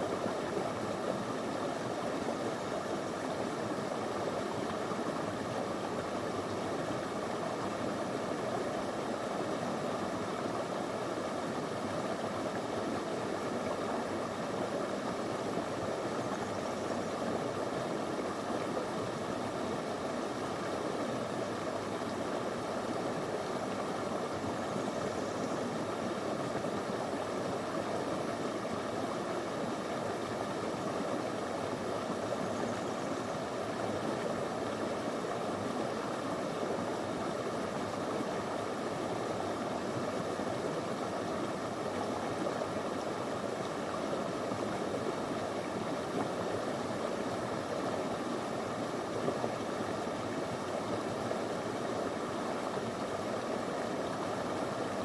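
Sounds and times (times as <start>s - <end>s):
river running over stones: 0.0s - 55.0s.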